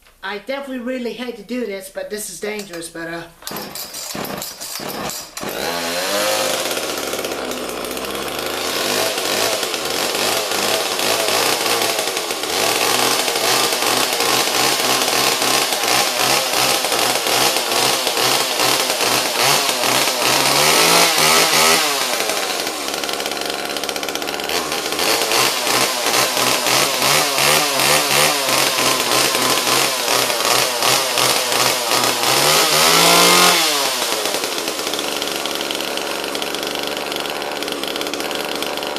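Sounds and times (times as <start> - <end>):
chainsaw running: 3.4 - 38.9.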